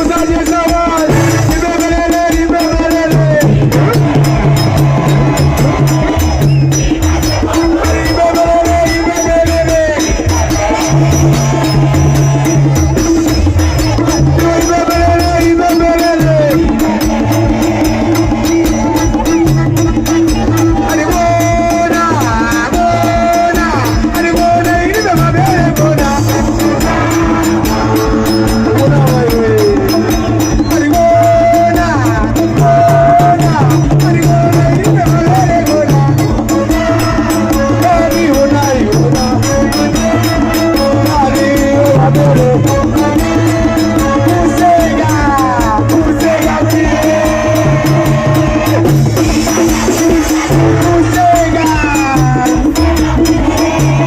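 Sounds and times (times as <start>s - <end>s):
fast percussion beat: 0.0s - 54.0s
loud live band music: 0.0s - 54.0s
repeating bass line: 0.0s - 54.0s.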